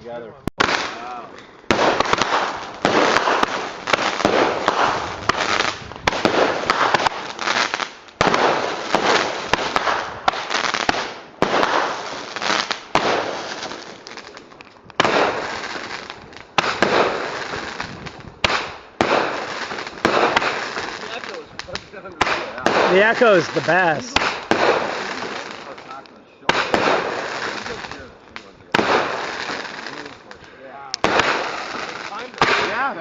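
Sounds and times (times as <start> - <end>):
fireworks bangs with echo: 0.6 - 33.0.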